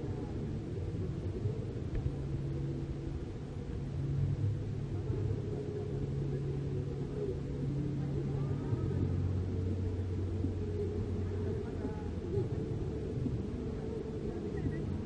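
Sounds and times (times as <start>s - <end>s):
faint low hum: 0.0s - 15.0s
low rumble in a large hall: 0.0s - 15.0s.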